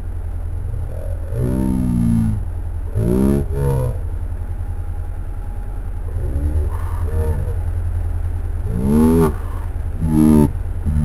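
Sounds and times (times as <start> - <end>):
atv engine revving: 0.0 - 11.0
low engine rumble: 0.0 - 11.0.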